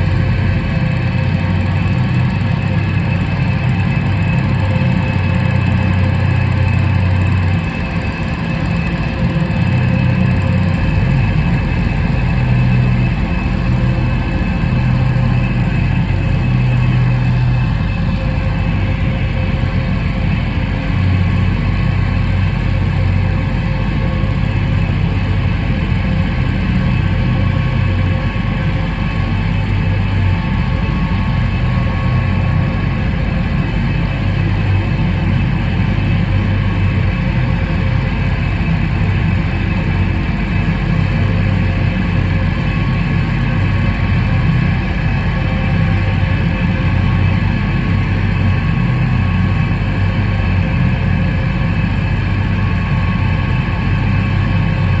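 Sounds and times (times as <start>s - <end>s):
distorted electric guitar drone: 0.0s - 55.0s.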